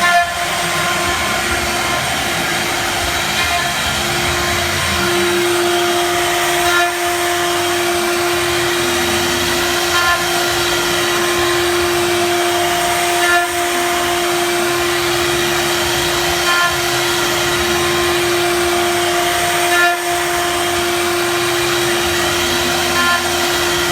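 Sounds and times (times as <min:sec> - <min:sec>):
hiss of cutting wood: 0:00.0 - 0:23.9
router spindle whining: 0:00.0 - 0:23.9.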